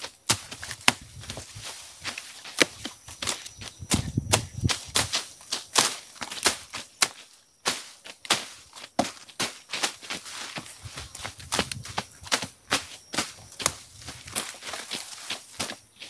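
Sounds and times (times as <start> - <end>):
footsteps on forest ground: 0.0 - 16.0.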